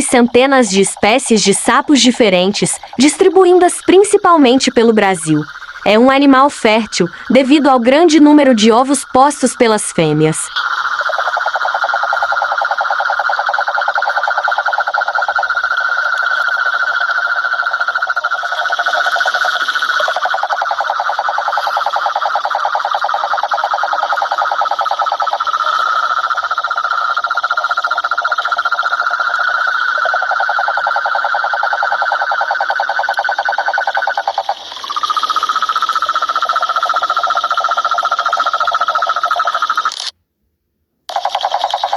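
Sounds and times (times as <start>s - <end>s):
toads calling in pulsed trills: 0.0s - 40.1s, 41.1s - 41.9s.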